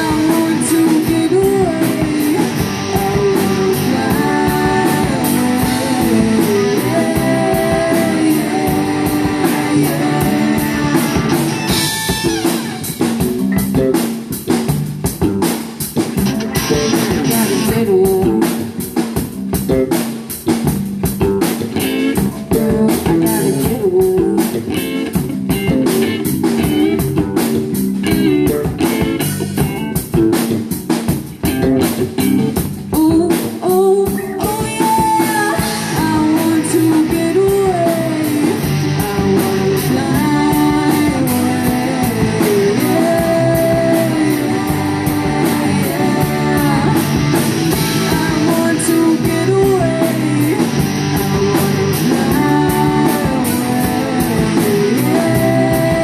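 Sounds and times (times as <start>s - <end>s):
lead guitar bending notes: 0.0s - 32.9s, 34.1s - 56.0s
drum kit beat: 0.0s - 56.0s
rock band playing: 0.0s - 56.0s.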